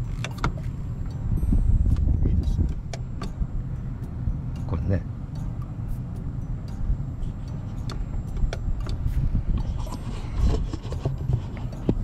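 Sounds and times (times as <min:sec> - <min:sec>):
low rumble inside car cabin: 0:00.0 - 0:12.0.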